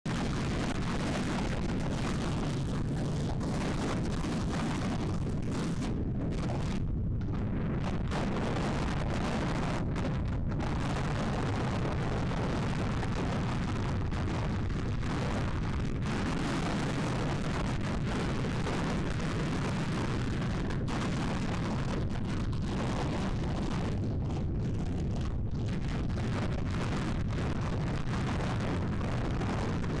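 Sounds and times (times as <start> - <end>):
strong wind buffeting microphone: 0.1 - 30.0.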